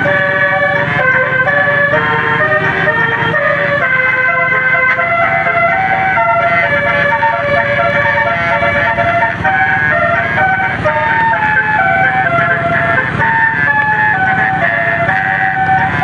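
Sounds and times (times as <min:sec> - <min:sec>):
bus horn melody: 0:00.0 - 0:16.0.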